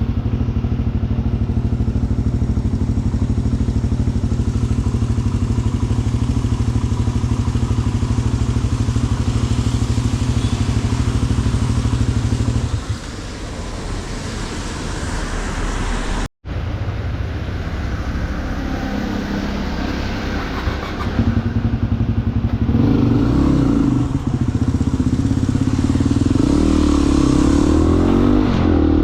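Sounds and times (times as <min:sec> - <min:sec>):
motorcycle engine accelerating: 0:00.0 - 0:13.9, 0:17.5 - 0:29.0.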